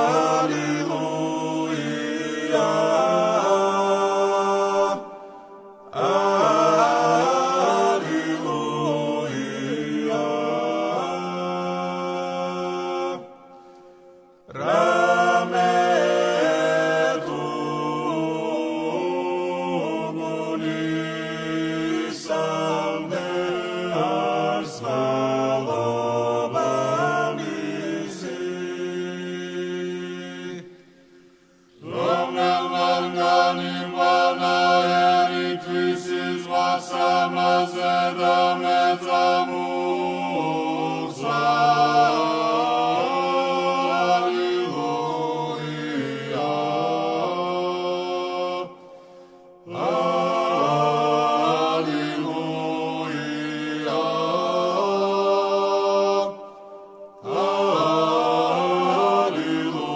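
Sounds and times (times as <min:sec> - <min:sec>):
choir chanting a cappella: 0:00.0 - 0:59.9.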